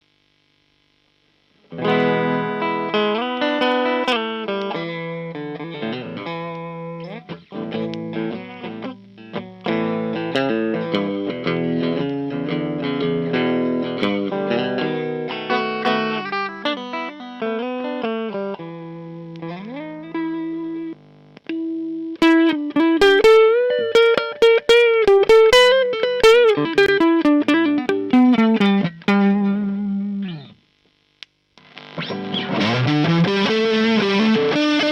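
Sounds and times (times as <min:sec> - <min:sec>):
electric guitar playing: 0:01.6 - 0:30.6, 0:31.6 - 0:34.9.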